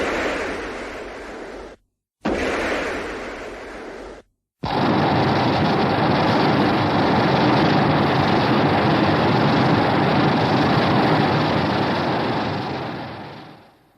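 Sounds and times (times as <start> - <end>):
steady rushing rumble: 0.0 - 13.9.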